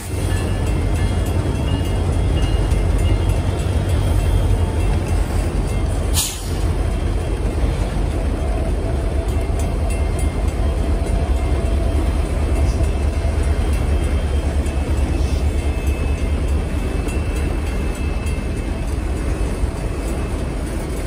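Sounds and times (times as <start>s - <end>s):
train wheels rumbling on bridge: 0.0s - 21.0s.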